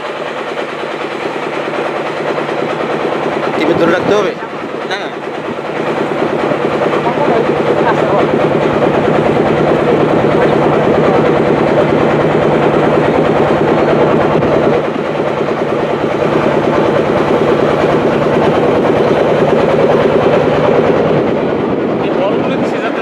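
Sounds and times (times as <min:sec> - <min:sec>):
motor boat engine chugging: 0:00.0 - 0:23.0.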